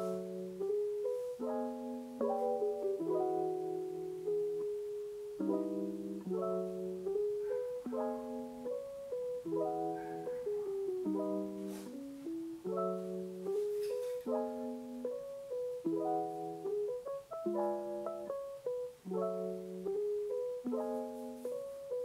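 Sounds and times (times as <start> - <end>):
light instrumental music: 0.0 - 22.0.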